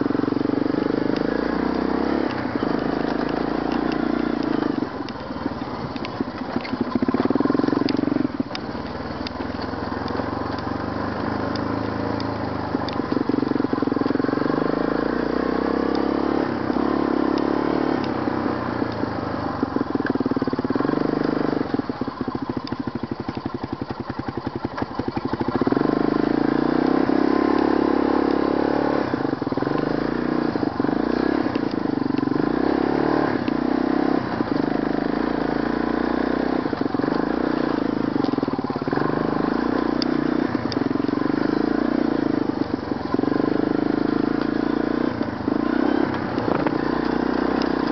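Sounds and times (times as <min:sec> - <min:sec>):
atv engine revving: 0:00.0 - 0:47.9.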